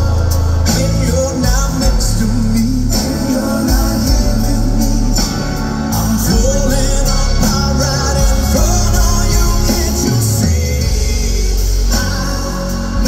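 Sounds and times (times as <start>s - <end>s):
live rock band playing: 0.0s - 13.0s
man singing lead vocal: 0.0s - 13.0s.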